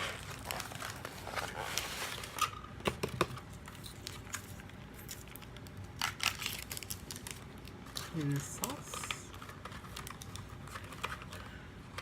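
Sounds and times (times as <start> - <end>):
food packaging clicks and rustles: 0.0 - 12.0.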